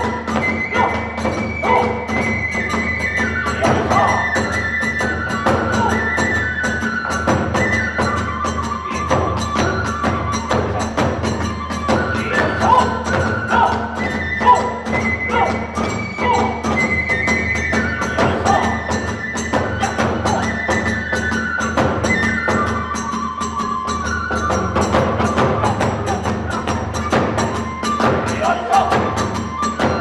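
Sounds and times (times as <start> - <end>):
fast drum beats: 0.0 - 21.0, 24.6 - 30.0
bamboo flute long notes: 0.0 - 30.0.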